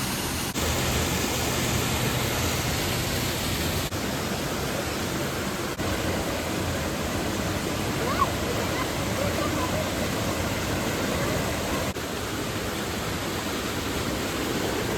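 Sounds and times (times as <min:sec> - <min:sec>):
flowing creek water: 0:00.0 - 0:14.9.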